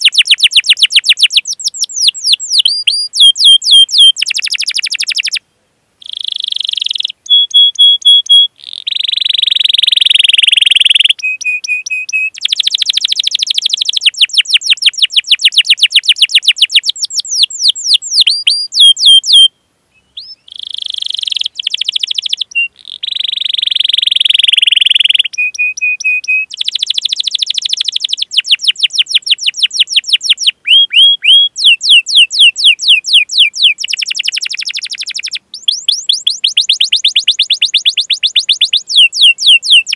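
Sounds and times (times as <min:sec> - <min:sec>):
canary singing: 0:00.0 - 0:05.4, 0:06.0 - 0:39.9.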